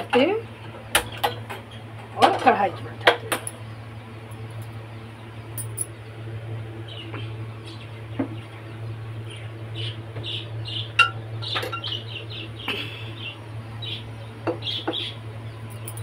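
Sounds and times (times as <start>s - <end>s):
steady low hum: 0.0s - 16.0s
small birds chirping: 2.7s - 16.0s.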